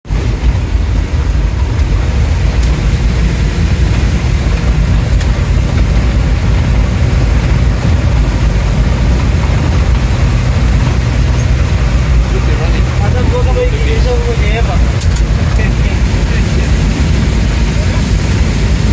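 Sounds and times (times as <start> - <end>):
vehicle engine rumble inside cabin: 0.0 - 18.9
water spray hissing on vehicle: 0.1 - 18.9.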